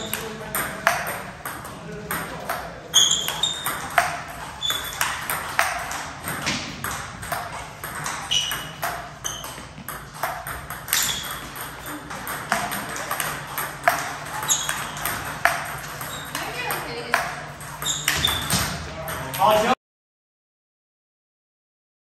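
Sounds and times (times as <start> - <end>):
table tennis ball clicking: 0.0 - 19.5
distant ping pong clicks: 0.0 - 19.6.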